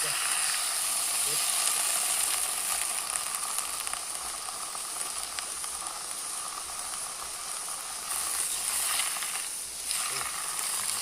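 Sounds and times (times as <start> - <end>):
leaves sizzling while cooking: 0.0 - 11.0.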